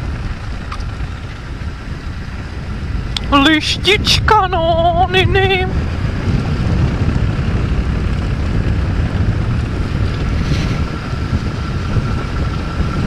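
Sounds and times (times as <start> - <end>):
faint motorbike engine: 0.0 - 13.0
wind buffeting microphone: 0.0 - 13.0.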